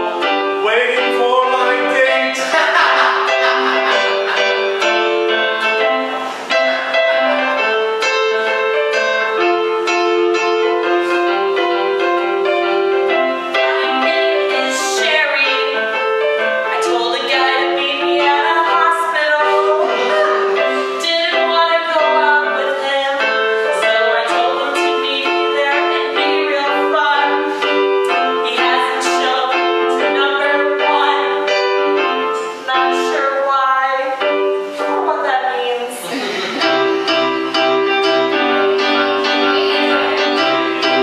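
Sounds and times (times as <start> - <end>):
electronic keyboard playing chords: 0.0 - 33.0, 36.0 - 41.0.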